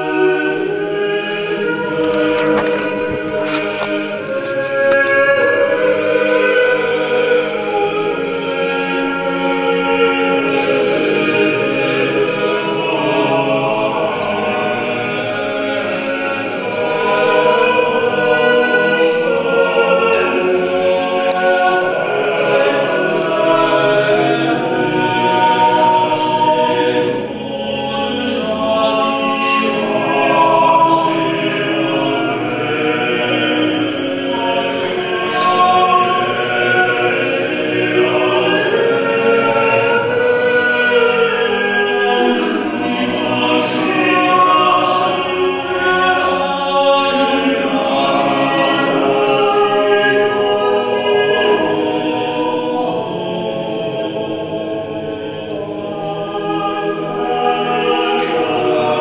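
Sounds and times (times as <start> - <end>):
male choir singing a cappella: 0.0 - 59.0.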